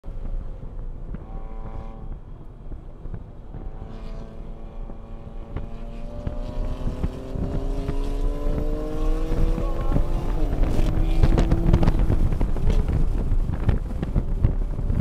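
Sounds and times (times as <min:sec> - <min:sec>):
car engine droning: 0:00.0 - 0:15.0
road rumble: 0:00.0 - 0:15.0.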